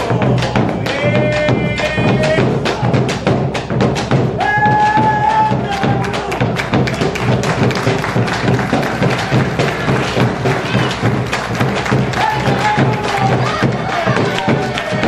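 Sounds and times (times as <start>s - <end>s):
sharp percussive strikes: 0.0s - 15.0s.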